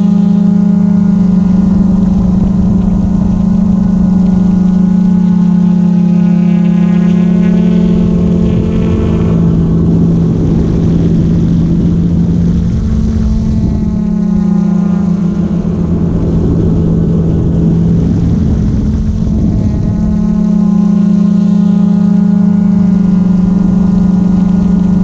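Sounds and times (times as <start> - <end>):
drone propellers humming: 0.0 - 25.0.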